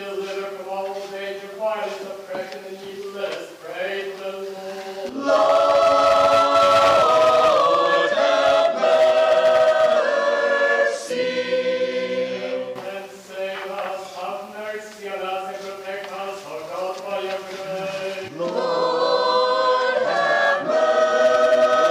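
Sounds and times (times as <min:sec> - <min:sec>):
choir singing a cappella: 0:00.0 - 0:21.9.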